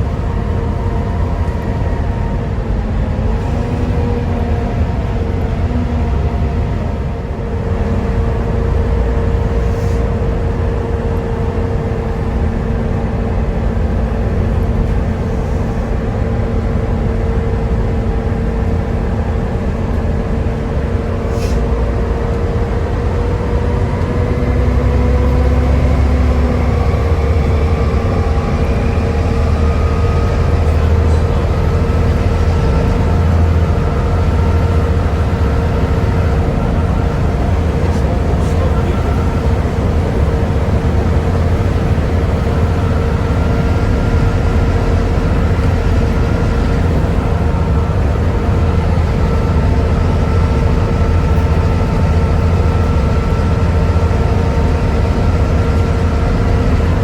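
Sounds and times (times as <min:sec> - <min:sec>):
bus diesel engine rumble: 0:00.0 - 0:57.0
bus driveline whine: 0:00.0 - 0:57.0.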